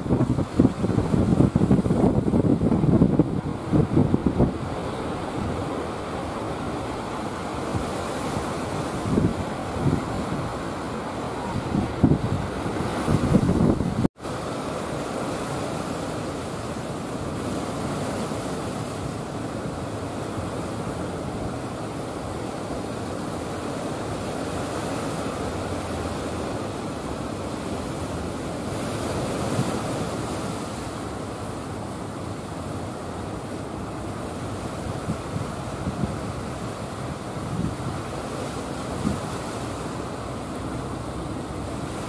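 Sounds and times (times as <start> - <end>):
wind on microphone: 0.0 - 31.4, 33.8 - 42.0
surf and choppy water breaking: 0.0 - 42.0.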